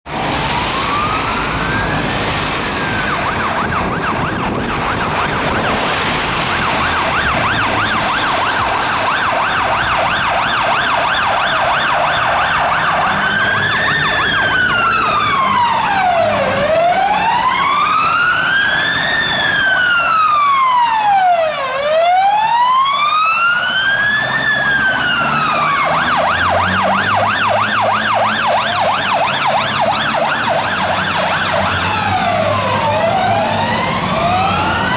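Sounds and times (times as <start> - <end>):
fire engine siren: 0.0 - 34.9
diesel engine passing: 0.1 - 34.9.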